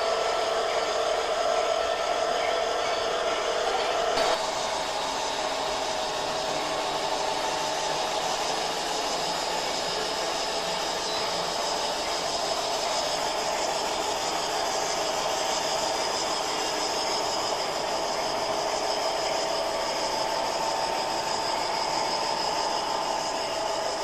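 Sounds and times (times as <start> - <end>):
model train whirring: 0.0 - 24.0.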